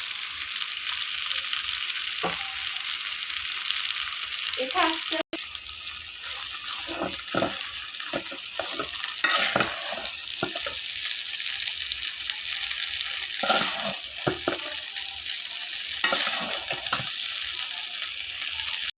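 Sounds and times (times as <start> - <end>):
noodles sizzling in a pan: 0.0 - 19.0.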